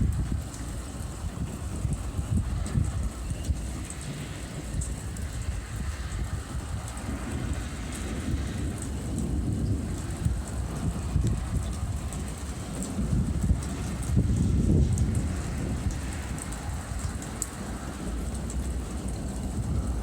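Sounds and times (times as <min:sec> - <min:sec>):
rain: 0:00.0 - 0:20.0
thunder rumbling: 0:00.0 - 0:20.0.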